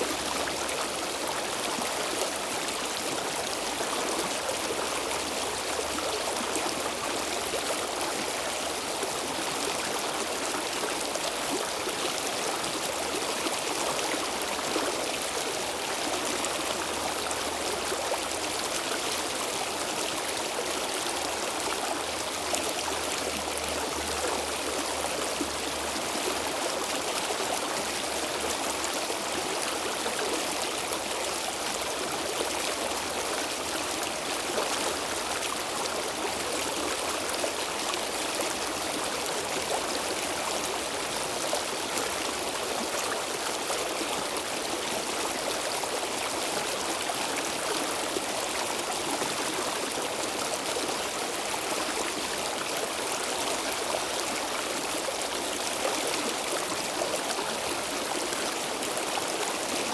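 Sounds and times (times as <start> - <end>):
stream water flowing over stones: 0.0 - 59.9.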